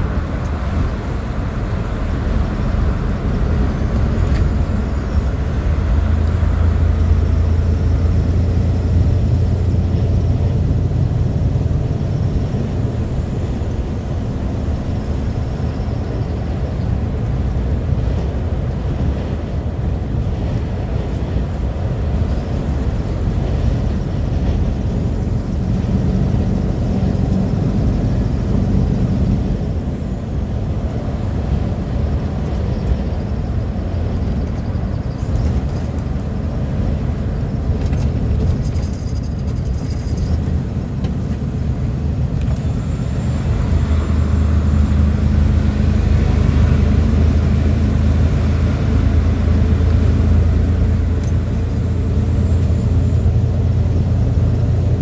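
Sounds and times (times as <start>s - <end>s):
lorry diesel engine humming: 0.0s - 55.0s
tyre and road noise: 0.0s - 55.0s.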